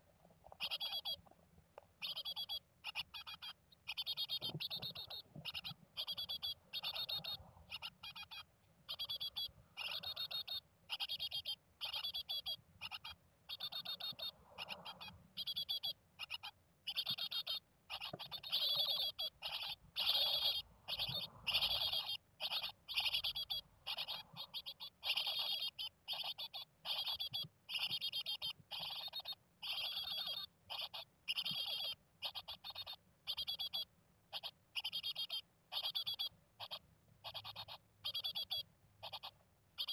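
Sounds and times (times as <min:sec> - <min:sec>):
nestlings calling: 0:00.5 - 0:01.3, 0:02.0 - 0:39.9.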